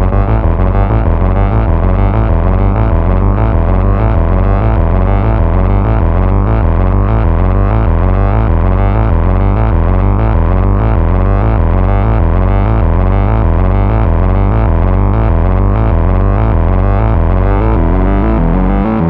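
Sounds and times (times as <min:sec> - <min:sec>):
synthesizer bass line: 0:00.0 - 0:19.0.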